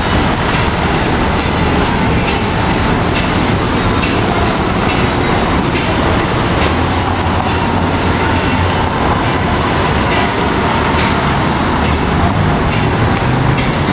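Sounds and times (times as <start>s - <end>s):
city street traffic rumble: 0.0s - 13.9s
heavy vehicle engines: 0.0s - 13.9s.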